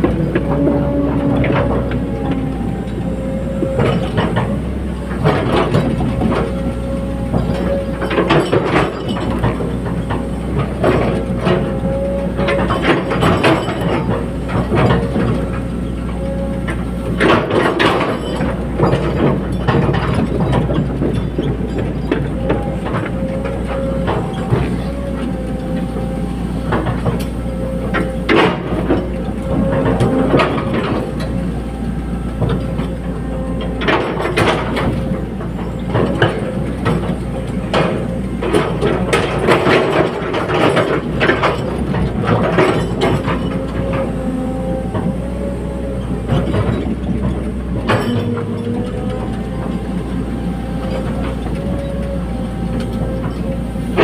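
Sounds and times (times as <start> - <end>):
diesel engine running: 0.0 - 54.0
metal clanks and knocks: 0.0 - 54.0
wavering hydraulic whine: 0.0 - 54.0.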